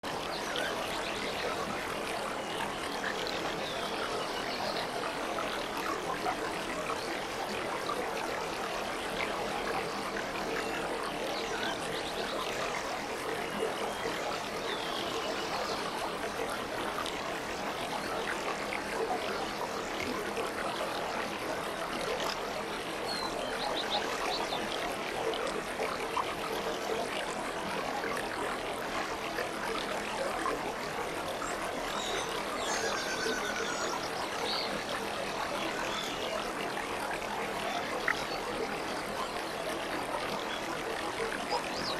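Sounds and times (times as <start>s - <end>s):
aquarium water bubbling: 0.0s - 41.9s.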